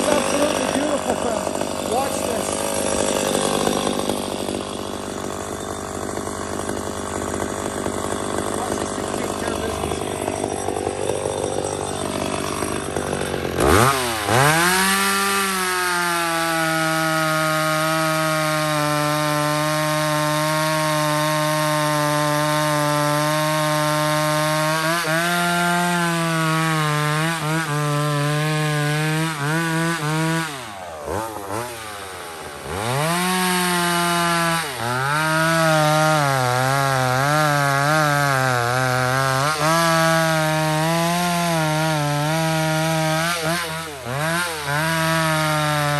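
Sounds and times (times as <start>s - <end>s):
chainsaw revving at full throttle: 0.0s - 45.9s.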